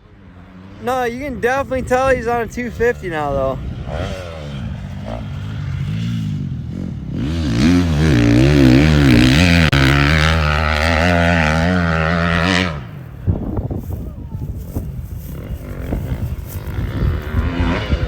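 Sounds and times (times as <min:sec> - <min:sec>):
dirt bike engine revving: 0:00.1 - 0:13.6, 0:14.8 - 0:18.0.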